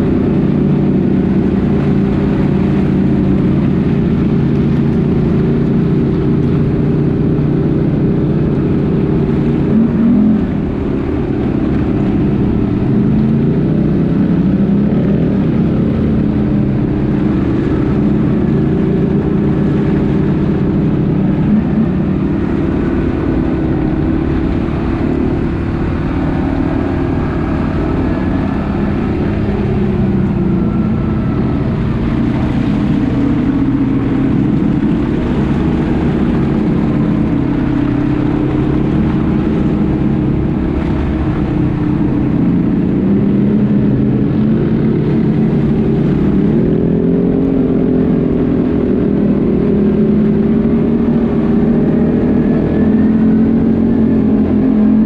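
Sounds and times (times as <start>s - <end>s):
atv engine running: 0.0s - 55.0s
other engines whining: 0.0s - 55.0s.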